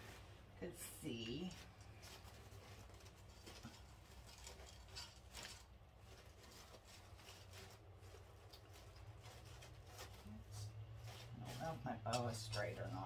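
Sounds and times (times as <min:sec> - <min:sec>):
low steady hum: 0:00.0 - 0:13.0
ribbon rustling: 0:00.0 - 0:13.0.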